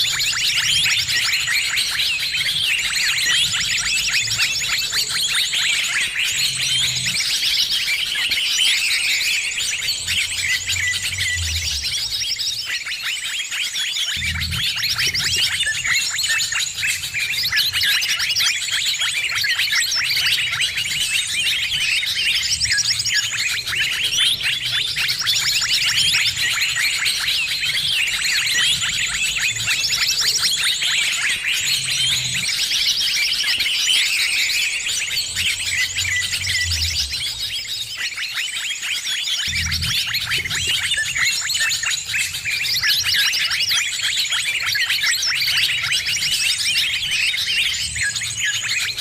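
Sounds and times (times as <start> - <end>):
many small birds chirping: 0.0 - 49.0.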